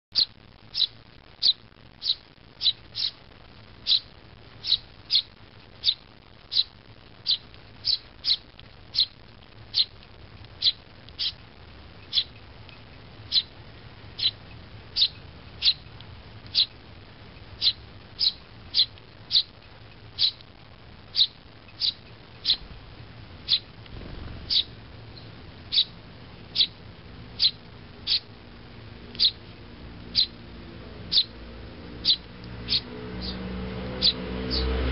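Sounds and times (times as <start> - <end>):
fledgling bird chirping: 0.1 - 28.4, 29.0 - 34.9.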